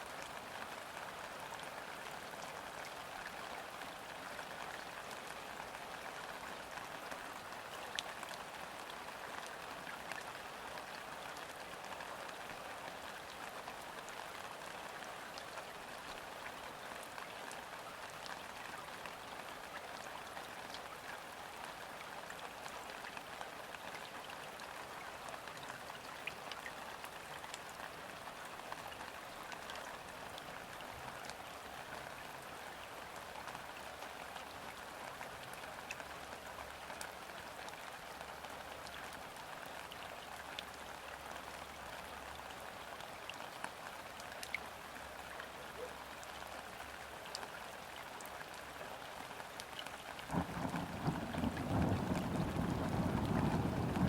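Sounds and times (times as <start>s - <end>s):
rain falling on river: 0.0s - 54.0s.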